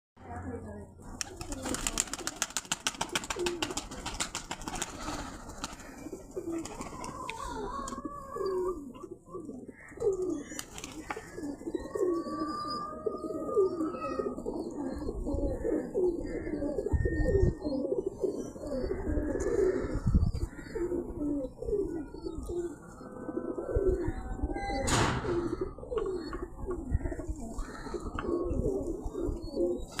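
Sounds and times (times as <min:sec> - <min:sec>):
pigeons cooing: 0:01.0 - 0:30.0.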